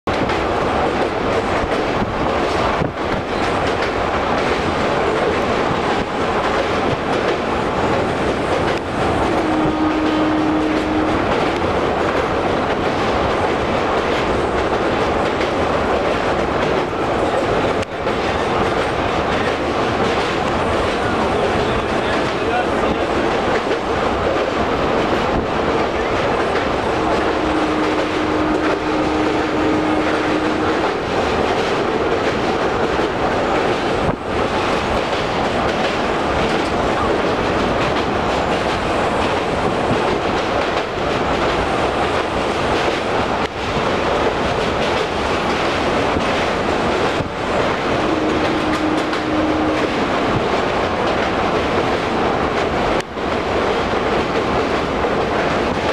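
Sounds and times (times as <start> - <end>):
train loud steady rumble: 0.1 - 55.9.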